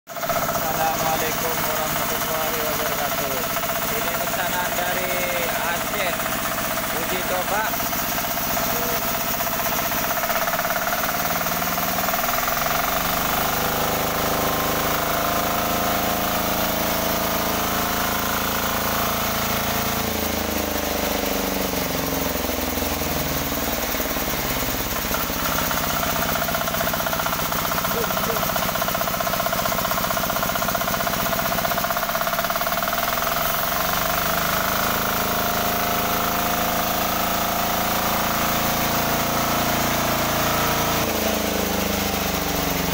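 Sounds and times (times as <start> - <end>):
diesel engine knocking: 0.1 - 42.9.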